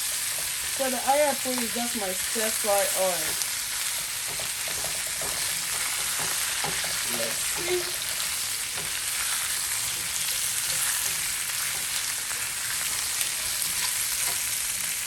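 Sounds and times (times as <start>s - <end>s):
chicken wings sizzling in oil: 0.0s - 15.0s.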